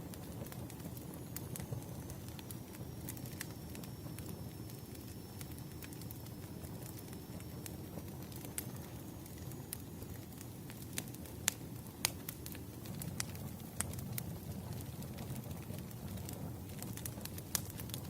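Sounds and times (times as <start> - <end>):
fire flames rumbling: 0.0 - 18.0
firewood crackling and popping: 0.0 - 18.0.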